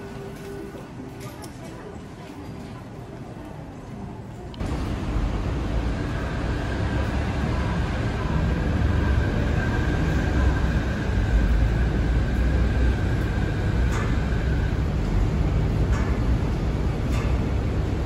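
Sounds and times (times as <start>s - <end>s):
monorail car rumbling with whine: 0.0s - 18.0s.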